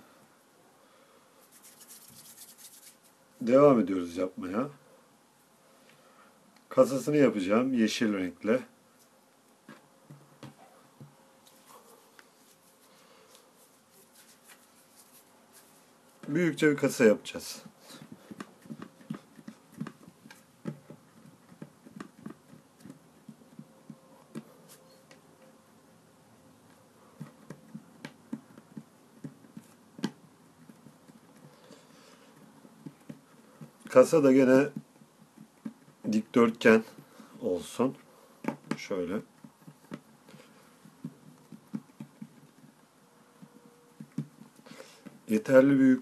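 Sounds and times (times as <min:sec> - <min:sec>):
hands handling play dough: 0:01.4 - 0:03.6, 0:09.0 - 0:25.6, 0:26.6 - 0:46.0.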